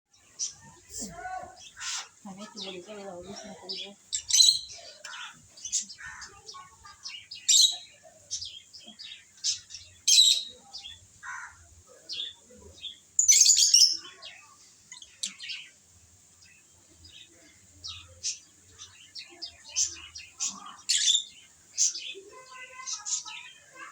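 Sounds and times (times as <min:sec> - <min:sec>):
lovebirds chirping: 0:00.1 - 0:23.9.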